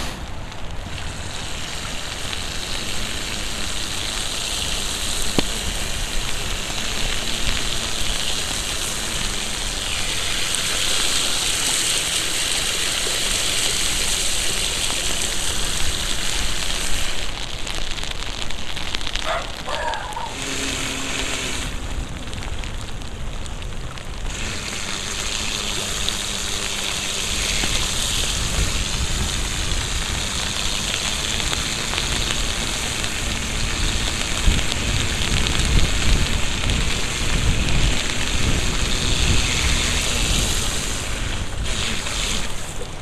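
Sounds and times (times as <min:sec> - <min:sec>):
heavy rain hissing: 0:00.0 - 0:43.0
wheel on wet road: 0:00.0 - 0:43.0
wind rumble on microphone: 0:00.0 - 0:43.0.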